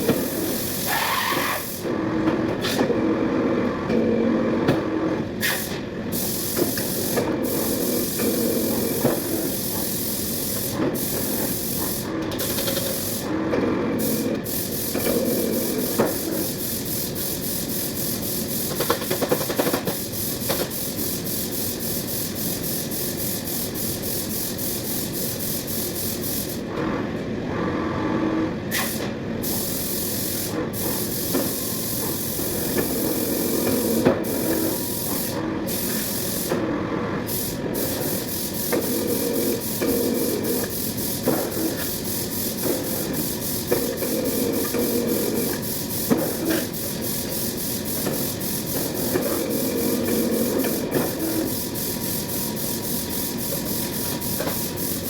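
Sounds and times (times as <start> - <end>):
machine hissing: 0.0 - 1.9, 5.4 - 26.7, 28.7 - 36.6, 37.2 - 55.0.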